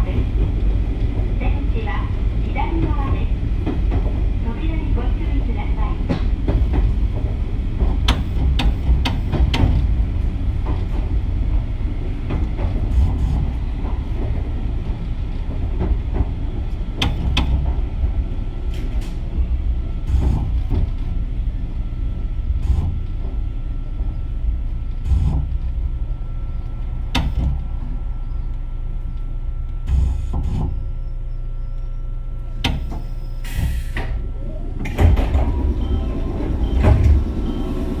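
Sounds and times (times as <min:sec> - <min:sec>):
train clunks: 0:00.0 - 0:31.0, 0:32.4 - 0:38.0
rail joint clicks: 0:00.0 - 0:38.0
train wheels rumbling on rail: 0:00.0 - 0:38.0.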